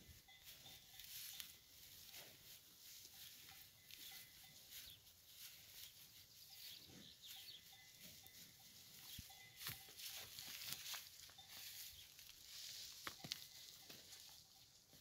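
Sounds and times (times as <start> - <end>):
bull chewing dry straw: 0.0 - 15.0.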